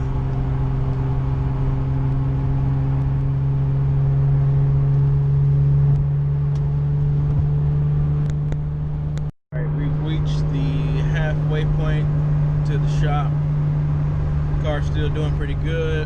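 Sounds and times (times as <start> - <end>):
car engine and road drone: 0.0 - 16.0.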